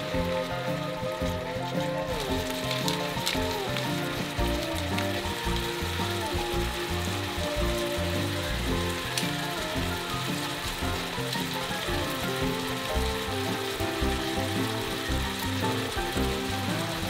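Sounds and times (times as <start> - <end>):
background music: 0.0 - 17.0
meat sizzling in a frying pan: 0.0 - 17.0.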